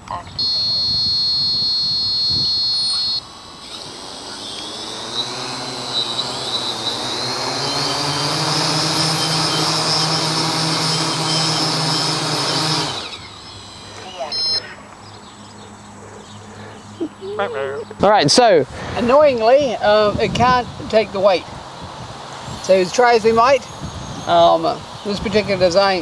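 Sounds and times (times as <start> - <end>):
drone motors whining: 0.0 - 18.2, 19.1 - 26.0.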